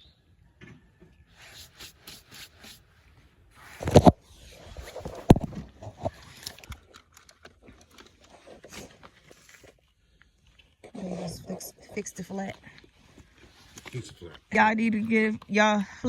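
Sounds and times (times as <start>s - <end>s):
handling clicks and scrapes: 1.2s - 16.0s.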